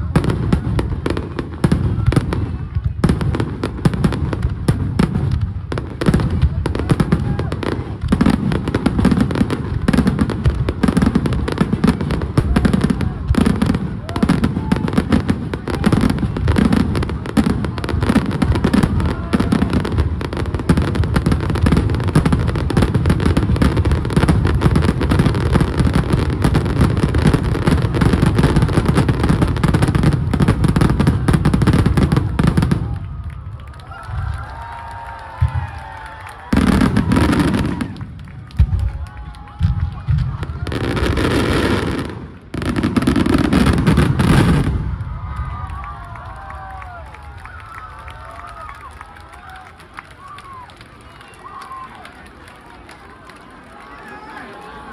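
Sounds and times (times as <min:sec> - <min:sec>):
fireworks booming and crackling: 0:00.0 - 0:47.5.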